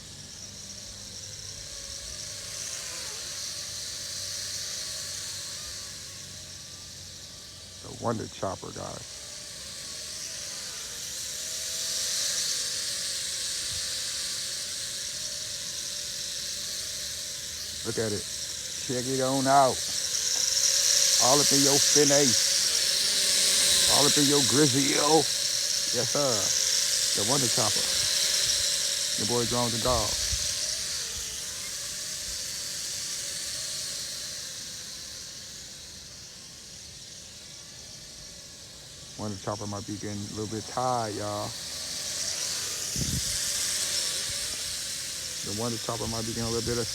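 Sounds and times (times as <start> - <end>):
toy drone propellers whirring: 0.0 - 46.9.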